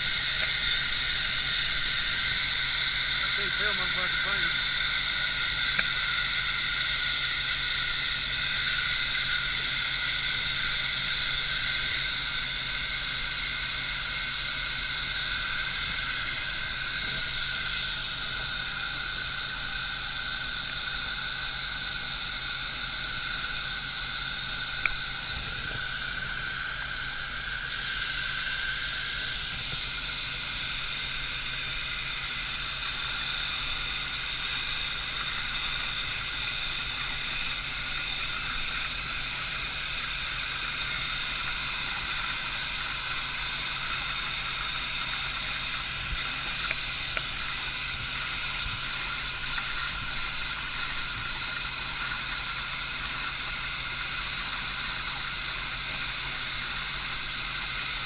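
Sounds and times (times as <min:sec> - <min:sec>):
low engine drone: 0:00.0 - 0:58.0
pressurized water hissing: 0:00.0 - 0:58.0.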